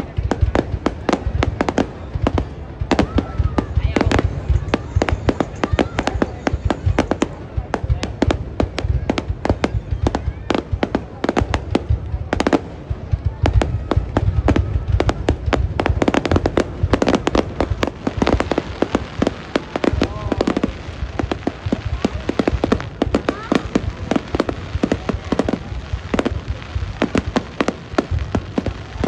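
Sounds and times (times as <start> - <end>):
fireworks bangs and cracks: 0.0 - 29.0.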